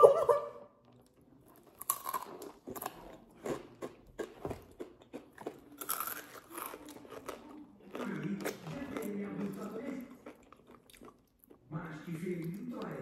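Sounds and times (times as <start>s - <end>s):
crunchy chips being chewed: 0.9s - 11.7s.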